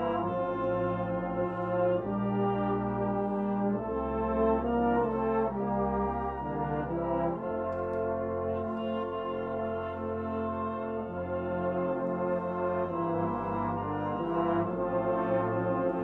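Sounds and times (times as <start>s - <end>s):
brass band playing held chords: 0.0s - 16.0s.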